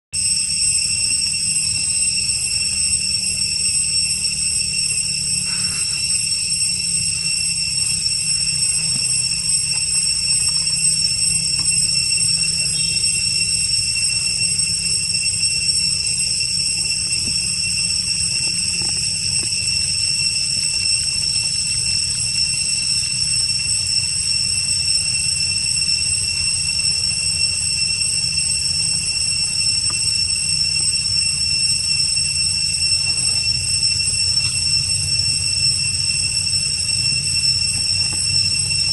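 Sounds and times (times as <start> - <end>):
cicadas droning: 0.1 - 38.9.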